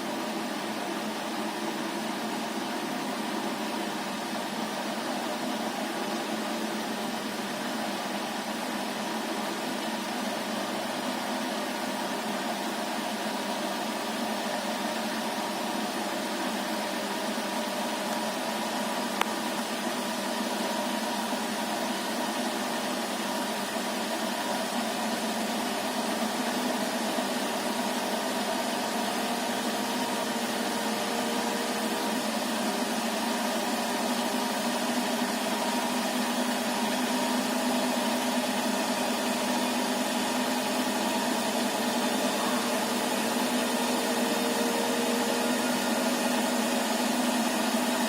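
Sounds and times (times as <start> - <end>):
washing machine spinning: 0.0 - 48.0.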